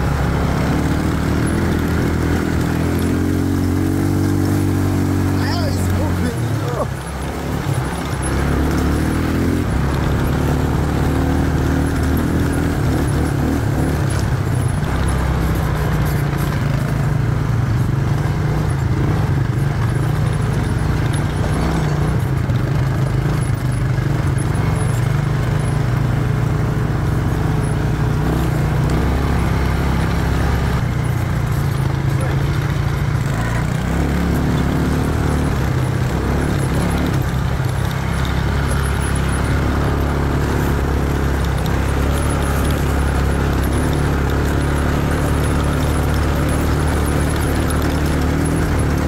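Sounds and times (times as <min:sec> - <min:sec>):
quad bike engine running: 0:00.0 - 0:49.0.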